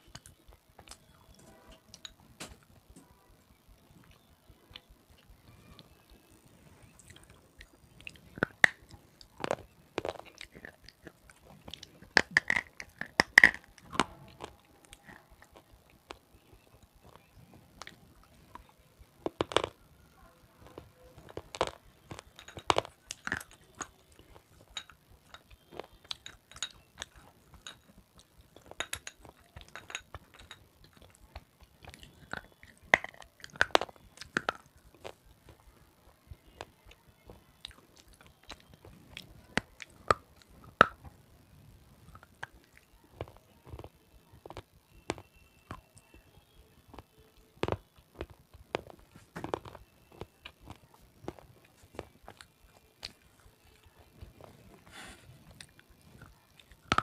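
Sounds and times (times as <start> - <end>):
chewing: 3.8 - 41.2, 41.9 - 46.2, 46.9 - 57.0.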